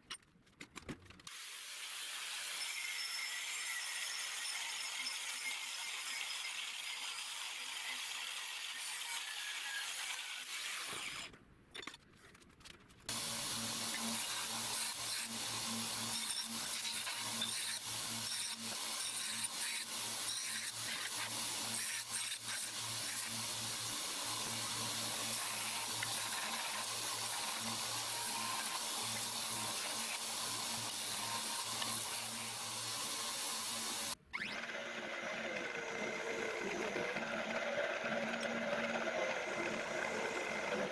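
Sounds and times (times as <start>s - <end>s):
angle grinder cutting steel: 1.3s - 11.3s, 13.1s - 40.9s
drill boring through steel plate: 1.3s - 11.3s, 13.1s - 40.9s.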